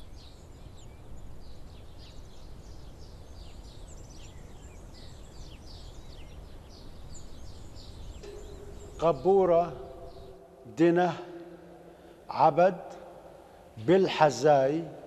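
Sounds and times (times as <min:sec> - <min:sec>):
small birds chirping: 0:00.0 - 0:14.9
low outdoor background noise: 0:00.0 - 0:15.0.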